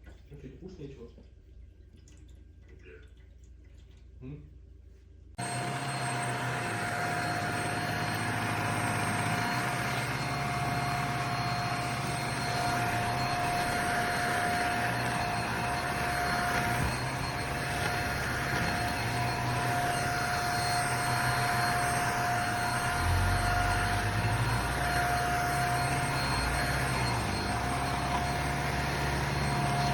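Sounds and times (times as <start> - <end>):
handheld vacuum cleaner running: 5.4 - 29.9.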